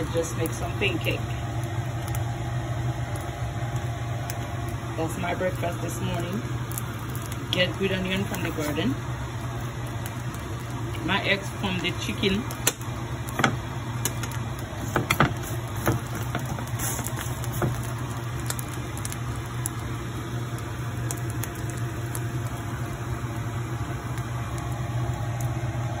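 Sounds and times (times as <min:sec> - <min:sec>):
eggs sizzling in a pan: 0:00.0 - 0:26.0
low steady hum: 0:00.0 - 0:26.0
sharp pops of frying: 0:00.0 - 0:26.0.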